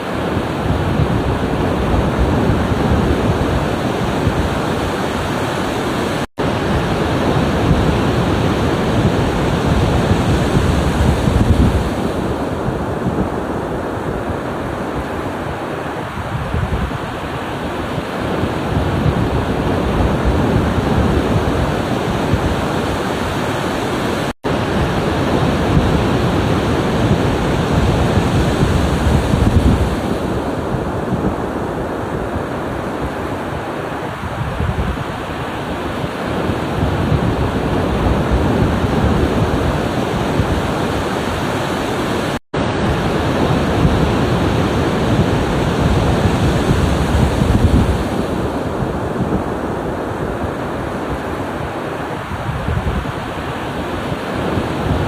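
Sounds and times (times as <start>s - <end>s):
ocean waves surging: 0.0s - 55.0s.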